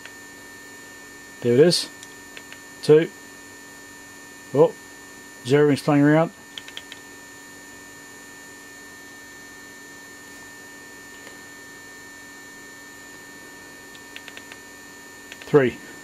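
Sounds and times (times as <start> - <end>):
electrical hum with high whine: 0.0 - 16.0.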